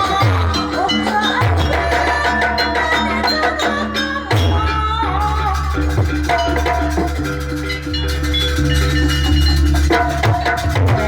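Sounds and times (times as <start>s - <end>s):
drum strokes: 0.0s - 11.0s.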